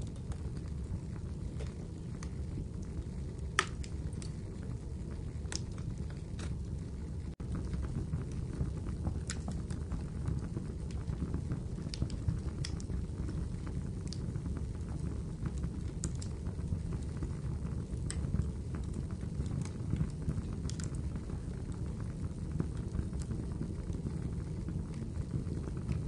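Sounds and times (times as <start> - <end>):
fire crackles and pops: 0.0 - 26.0
wood fire rumbling: 0.0 - 26.0.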